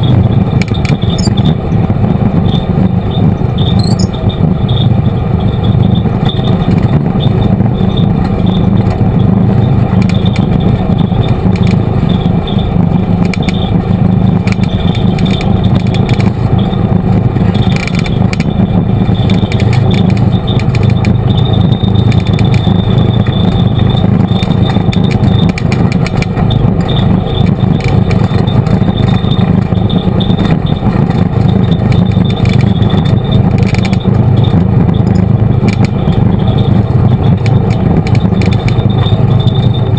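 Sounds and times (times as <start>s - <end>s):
utility vehicle engine driving: 0.0s - 39.9s
light rattling: 2.4s - 39.9s.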